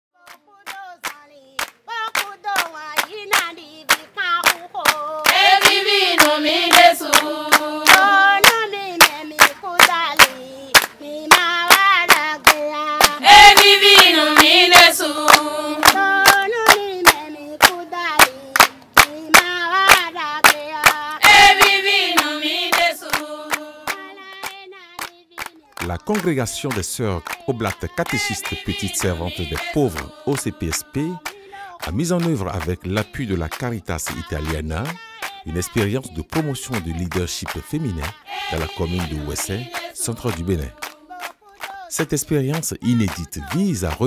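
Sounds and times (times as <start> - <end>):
women singing together: 0.2 - 25.3, 27.3 - 31.8, 34.1 - 41.9
steady handclaps: 0.3 - 44.0.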